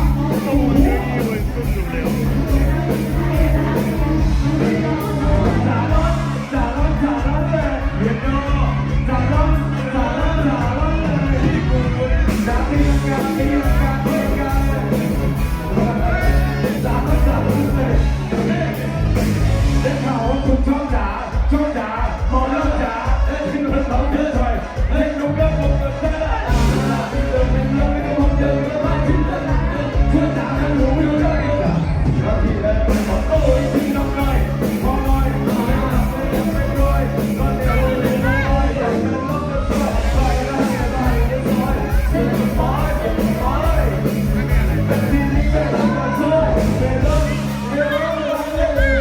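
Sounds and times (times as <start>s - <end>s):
live rock band playing: 0.0s - 49.0s
person singing: 0.0s - 49.0s
steady drum beat: 0.0s - 49.0s.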